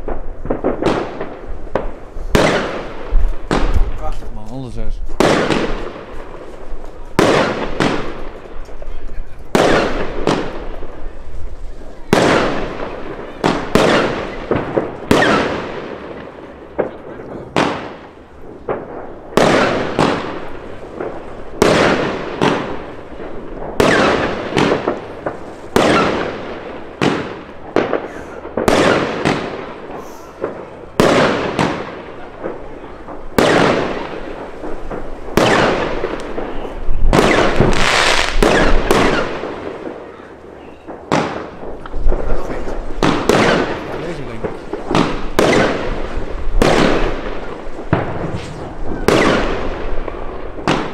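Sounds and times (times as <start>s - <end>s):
fireworks bangs: 0.0s - 50.9s.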